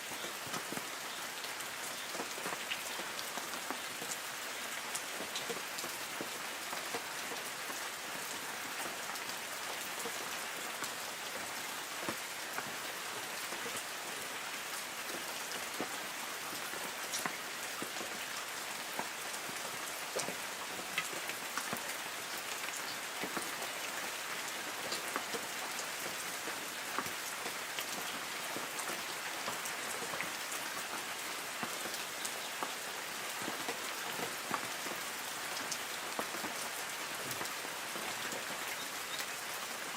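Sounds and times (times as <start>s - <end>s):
light rain on trees: 0.0s - 39.9s
raindrops ticking on leaves: 0.0s - 39.9s.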